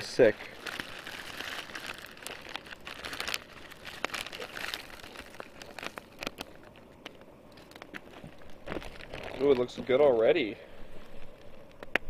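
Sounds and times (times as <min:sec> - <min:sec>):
food pouch crinkling and rustling: 0:00.0 - 0:10.4.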